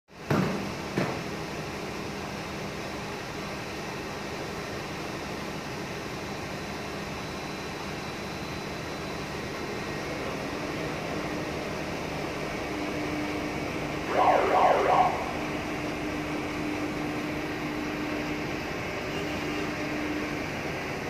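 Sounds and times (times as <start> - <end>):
crane machinery drone: 0.2 - 21.0.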